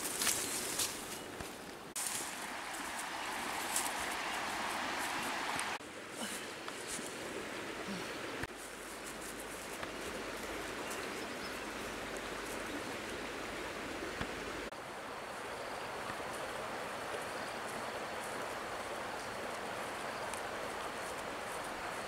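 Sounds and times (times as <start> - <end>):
rushing outdoor background noise: 0.0 - 22.0.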